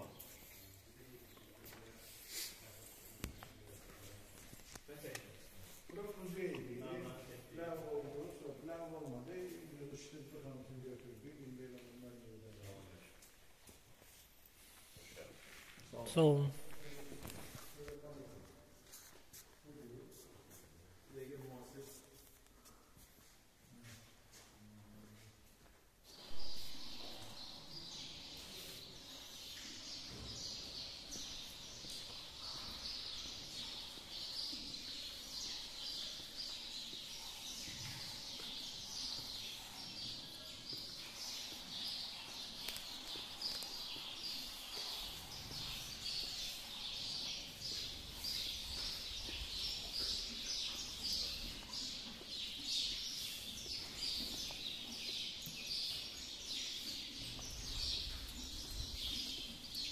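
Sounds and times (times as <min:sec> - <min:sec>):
small birds chirping: 0:00.0 - 0:24.0, 0:26.0 - 0:59.9.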